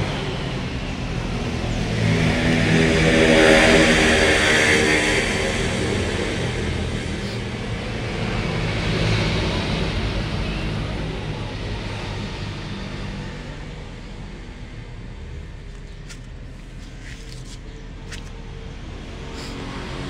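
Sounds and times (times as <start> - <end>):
passing motor vehicle: 0.0 - 20.0.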